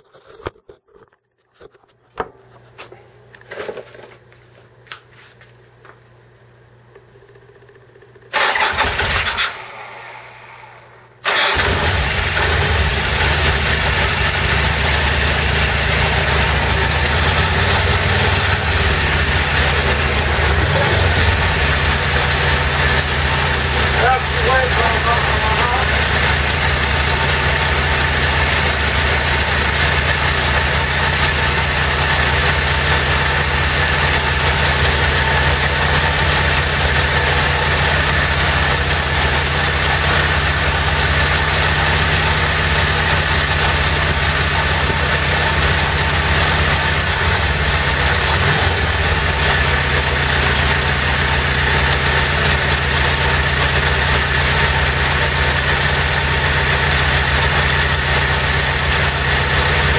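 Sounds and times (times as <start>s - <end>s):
motorcycle engine idling: 11.6s - 59.9s.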